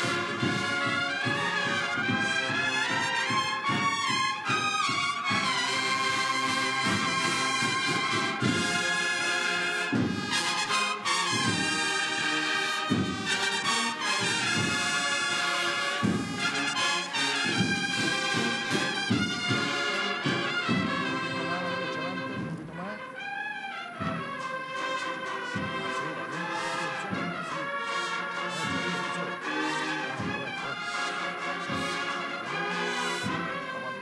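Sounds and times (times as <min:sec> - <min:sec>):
drum strokes: 0:00.0 - 0:23.2, 0:23.8 - 0:34.0
brass melody: 0:00.0 - 0:34.0.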